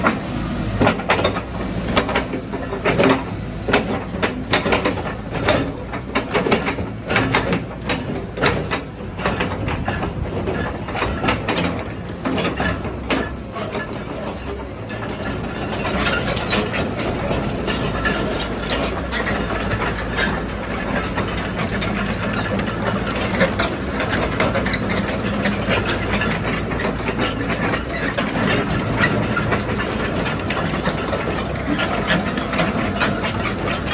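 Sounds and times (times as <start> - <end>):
excavator running: 0.0 - 33.9
sharp metallic clanks and rattles: 0.8 - 33.9.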